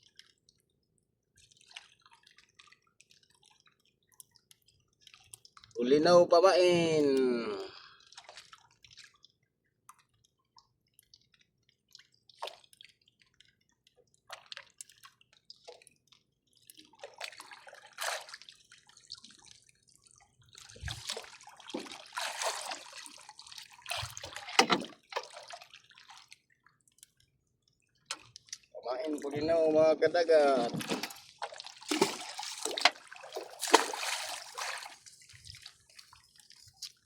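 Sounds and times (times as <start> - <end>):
water dripping and splashing: 0.0 - 5.8, 7.0 - 37.0.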